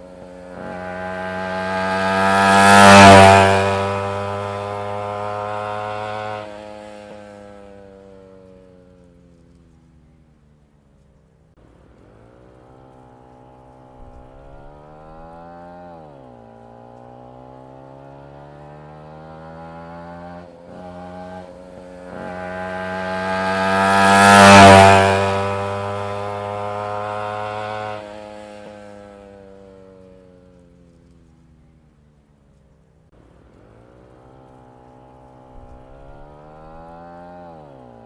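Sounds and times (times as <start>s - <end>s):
motorcycle passing by: 0.0s - 38.0s.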